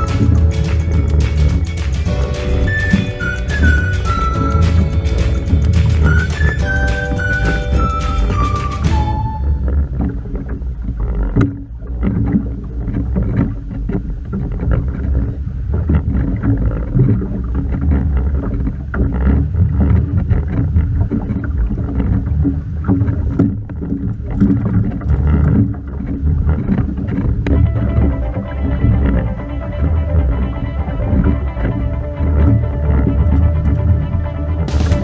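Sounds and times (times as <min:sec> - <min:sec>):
wind and water against hull: 0:00.0 - 0:35.0.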